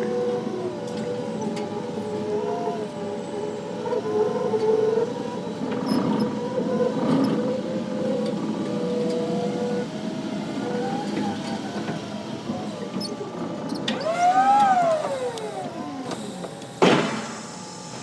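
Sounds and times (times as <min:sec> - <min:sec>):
electric motors whining: 0:00.0 - 0:18.0
steady mechanical noise: 0:00.0 - 0:18.0.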